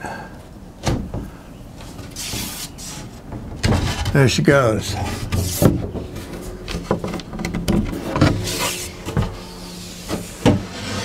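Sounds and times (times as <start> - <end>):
wood scraping on wood: 1.8 - 11.0.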